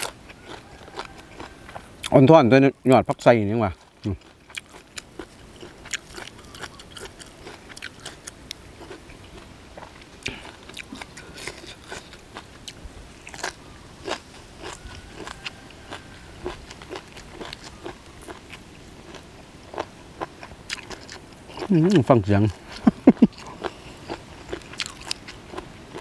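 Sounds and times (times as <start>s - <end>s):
crunchy chewing: 0.0s - 26.0s.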